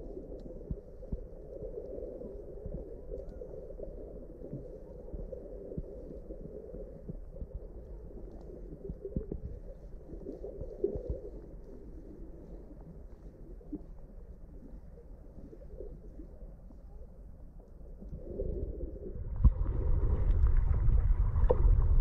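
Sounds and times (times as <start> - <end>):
dull underwater rumble: 0.0 - 22.0
soft low thuds underwater: 0.0 - 22.0.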